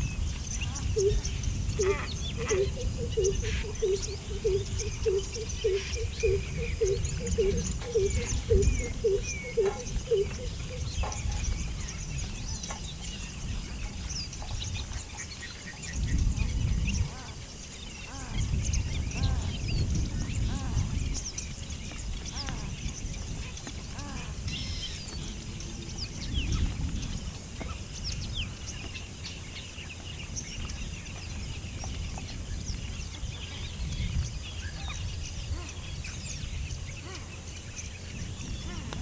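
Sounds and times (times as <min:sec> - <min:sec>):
birds chirping and calling: 0:00.0 - 0:39.0.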